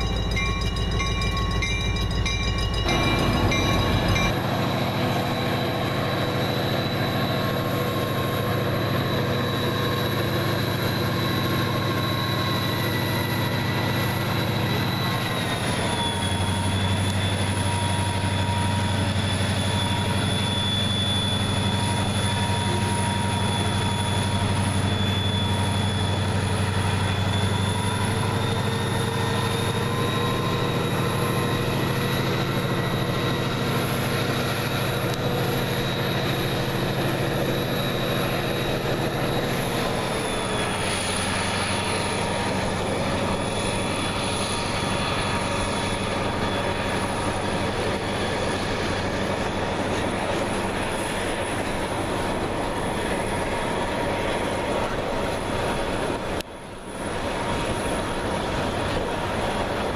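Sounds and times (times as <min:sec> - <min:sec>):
high whining tones: 0:00.0 - 0:54.8
locomotive engine hum: 0:00.0 - 0:59.9.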